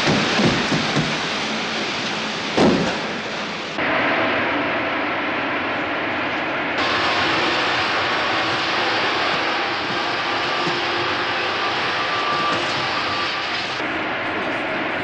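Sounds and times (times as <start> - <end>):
train rushing through tunnel: 0.0 - 15.0.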